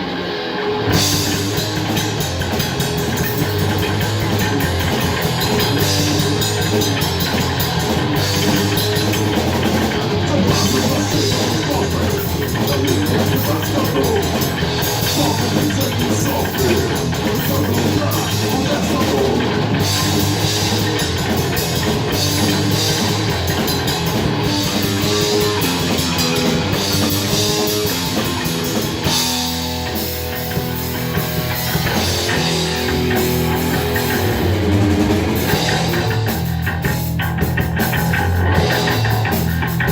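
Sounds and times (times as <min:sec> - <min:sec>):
bass guitar: 0:00.0 - 0:39.9
distorted guitar: 0:00.0 - 0:39.9
drums: 0:00.0 - 0:39.9.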